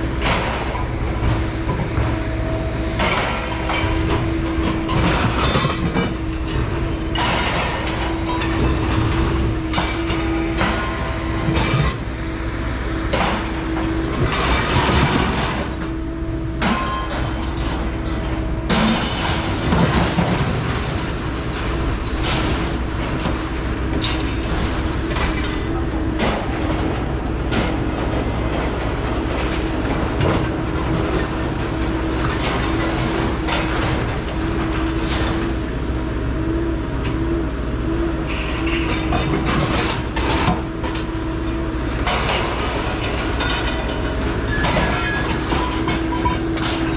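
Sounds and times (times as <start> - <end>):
vehicle rumbling: 0.0 - 46.9.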